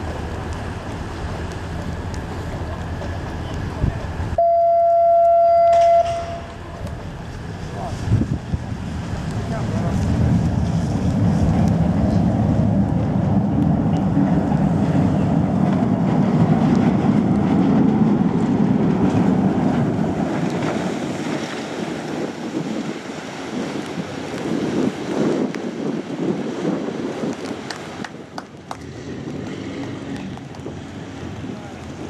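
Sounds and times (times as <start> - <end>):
low rumble of boat on slipway: 0.0 - 32.0
rushing water: 0.0 - 32.0
wind on microphone: 0.0 - 32.0.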